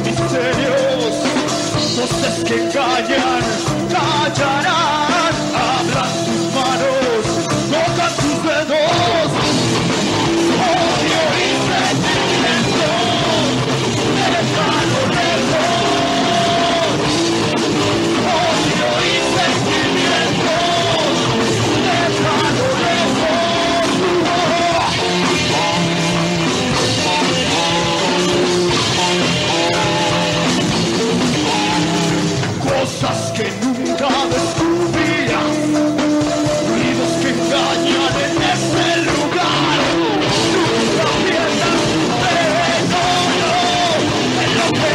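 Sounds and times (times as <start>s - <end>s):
lead singer: 0.0s - 44.9s
rock band playing live: 0.0s - 44.9s.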